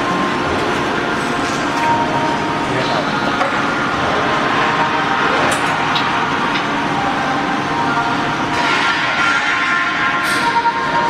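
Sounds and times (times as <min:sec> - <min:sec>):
continuous mechanical rush: 0:00.0 - 0:11.0.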